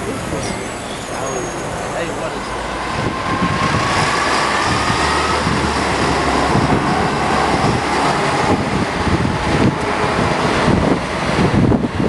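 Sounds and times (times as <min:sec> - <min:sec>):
bus engine and road noise: 0:00.0 - 0:12.0
wind on microphone: 0:00.0 - 0:12.0.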